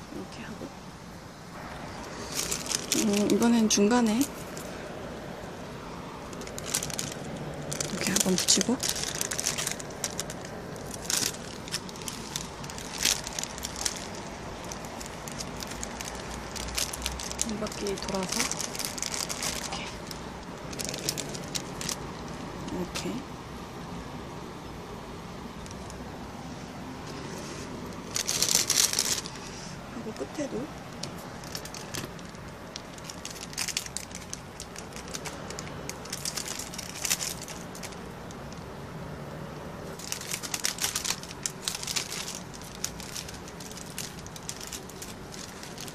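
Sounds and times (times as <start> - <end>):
plastic sheeting crinkling: 1.5 - 23.2, 26.9 - 38.7, 39.9 - 45.9.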